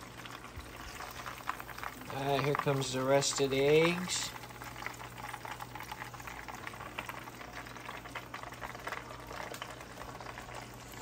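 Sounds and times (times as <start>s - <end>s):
hot oil bubbling and crackling: 0.0s - 11.0s.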